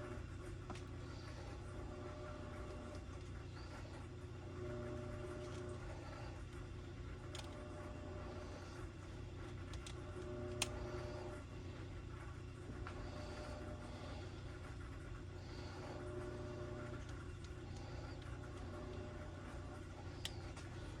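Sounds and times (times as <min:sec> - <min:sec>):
workshop room hum: 0:00.0 - 0:21.0.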